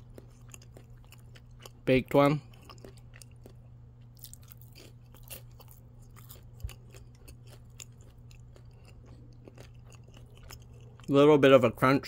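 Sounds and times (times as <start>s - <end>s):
person chewing crunchy crust: 0.0s - 11.9s
low steady hum: 0.0s - 12.0s.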